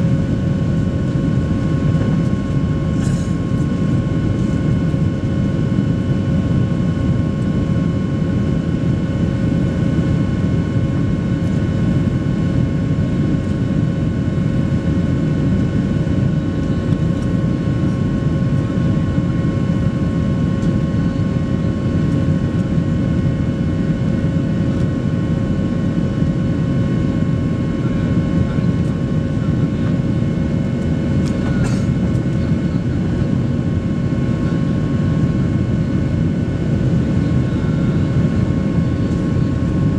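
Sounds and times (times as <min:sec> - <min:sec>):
airliner cabin airflow and engines: 0:00.0 - 0:39.9.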